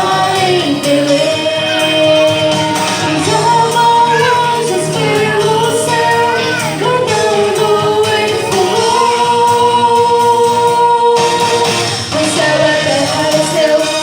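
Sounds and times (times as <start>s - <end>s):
voices singing with music: 0.0s - 14.0s.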